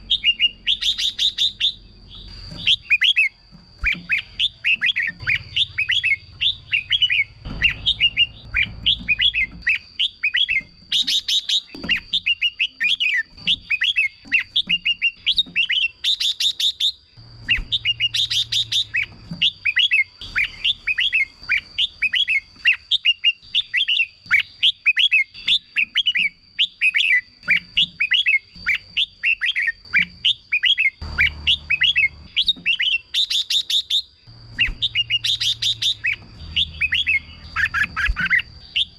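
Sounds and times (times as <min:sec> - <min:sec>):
bird chattering bursts: 0:00.0 - 0:27.3, 0:28.0 - 0:38.9
bird whistled song: 0:00.0 - 0:38.9.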